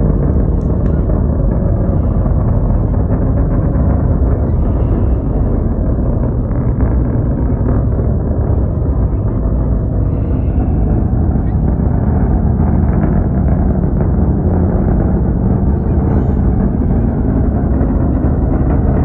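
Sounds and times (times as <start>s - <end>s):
distant rocket engine roar: 0.0s - 19.0s.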